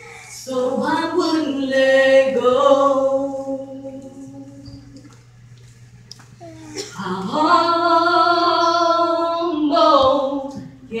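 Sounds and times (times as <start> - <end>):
woman singing gospel: 0.0 - 5.1, 6.8 - 11.0.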